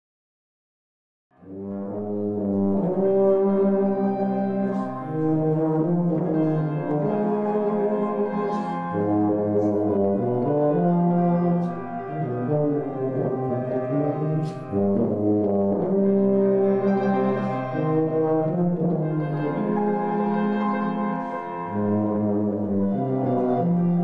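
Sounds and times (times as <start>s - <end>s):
slow brass music: 1.4s - 24.0s.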